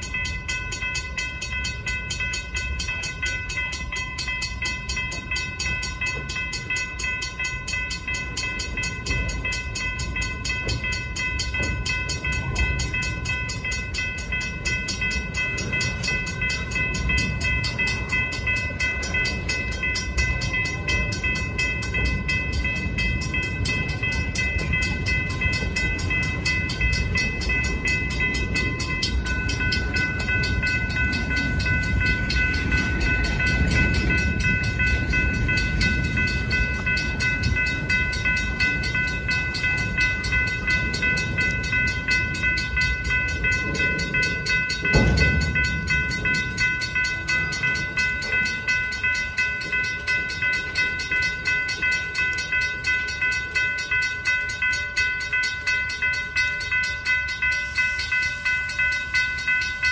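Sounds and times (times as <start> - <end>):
high ringing tones: 0.0 - 59.9
loud train clunk: 0.0 - 59.9
steel wheels rumbling on rail: 0.0 - 59.9
wheels clickety-clack over joints: 0.0 - 59.9.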